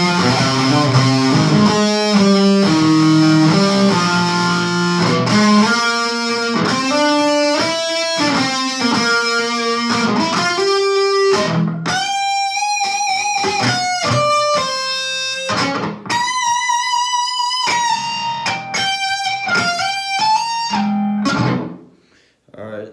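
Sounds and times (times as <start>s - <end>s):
electric guitar riff: 0.0s - 21.9s.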